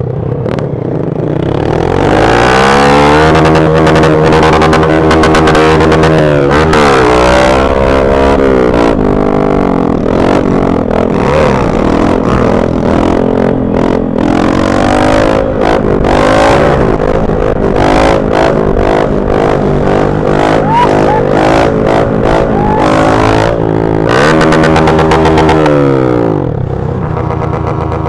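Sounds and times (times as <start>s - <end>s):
motorcycle engines accelerating: 0.0s - 28.0s.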